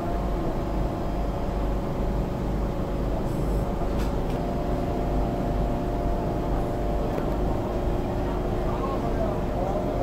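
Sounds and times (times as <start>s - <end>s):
train carriage hum and rumble: 0.0s - 10.0s.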